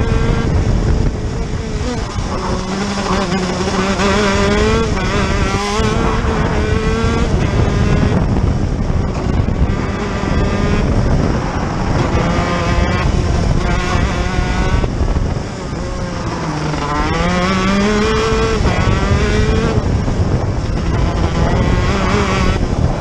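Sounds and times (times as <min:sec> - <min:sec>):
kart engine revving: 0:00.0 - 0:23.0.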